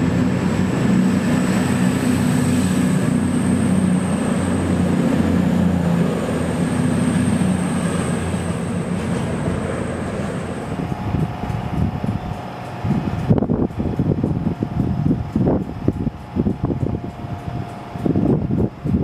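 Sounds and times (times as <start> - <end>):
diesel train engines droning: 0.0 - 19.0.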